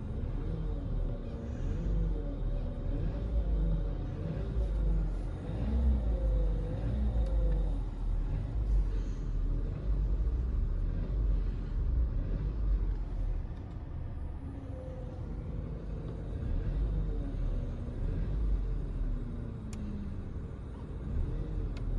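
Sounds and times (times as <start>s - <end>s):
car road and engine rumble: 0.0s - 21.9s.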